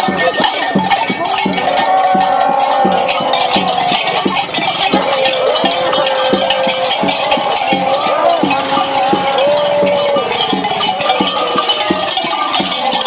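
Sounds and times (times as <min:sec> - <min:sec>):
cowbells clanging and jangling: 0:00.0 - 0:13.0
steady beat of low knocks: 0:00.0 - 0:13.0.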